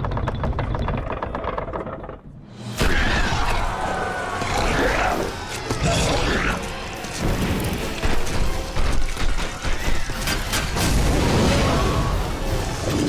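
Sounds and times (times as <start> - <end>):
film music score: 0.1 - 13.0.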